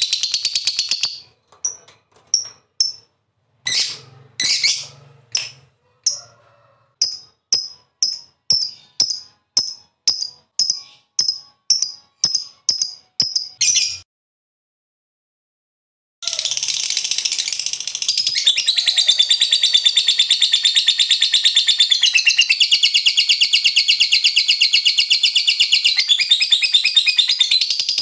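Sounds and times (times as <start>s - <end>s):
lovebird chirping: 0.0s - 6.2s, 7.0s - 14.0s, 16.2s - 28.0s.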